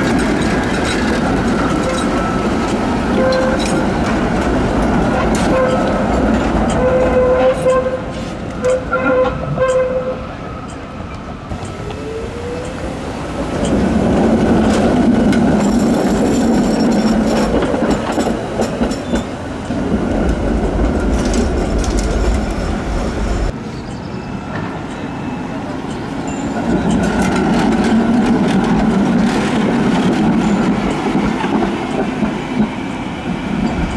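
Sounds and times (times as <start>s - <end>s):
tram passing rumble: 0.0s - 33.9s
tram wheels rolling on rails: 0.0s - 33.9s.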